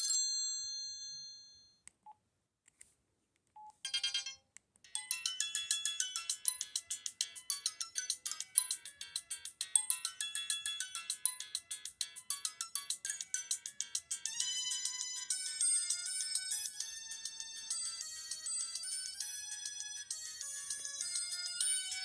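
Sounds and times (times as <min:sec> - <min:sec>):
cell phone ringtone melody: 0:03.9 - 0:22.0.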